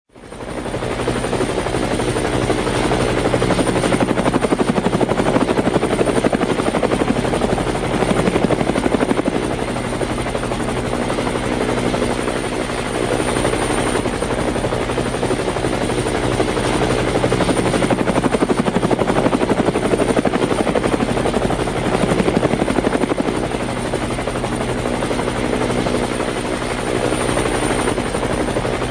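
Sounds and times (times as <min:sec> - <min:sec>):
drone propellers whirring: 0:00.3 - 0:28.9.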